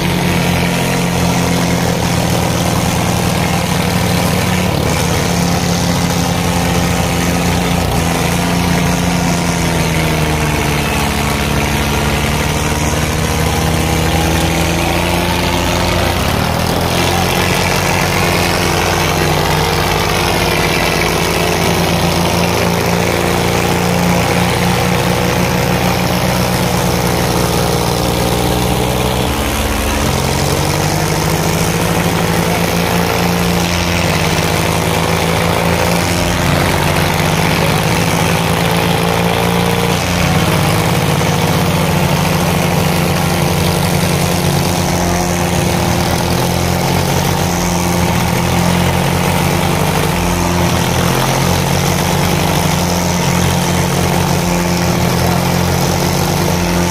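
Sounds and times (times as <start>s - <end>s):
diesel tractor engines running: 0.0s - 56.9s.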